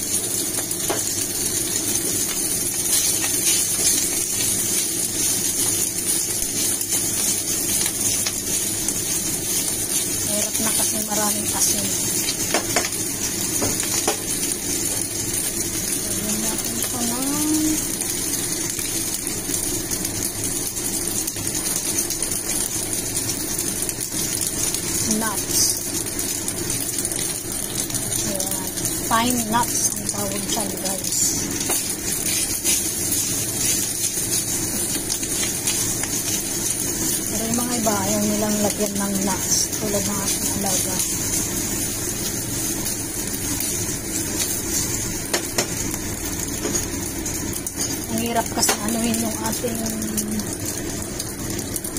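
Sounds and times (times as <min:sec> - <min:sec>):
pasta sizzling in a skillet: 0:00.0 - 0:51.9.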